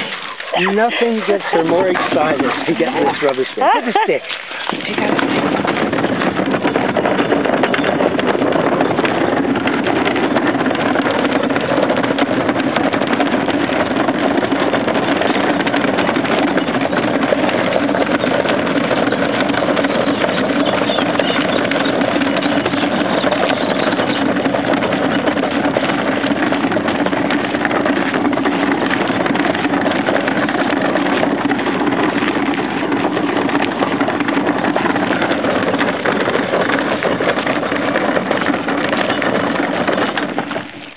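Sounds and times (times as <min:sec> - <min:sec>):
bin wheels rattling on gravel: 0:00.0 - 0:40.9.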